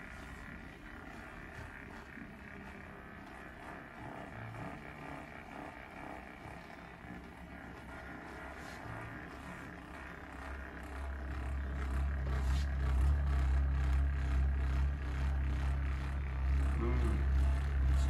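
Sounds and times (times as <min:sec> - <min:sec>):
massage gun humming: 0:00.0 - 0:18.0.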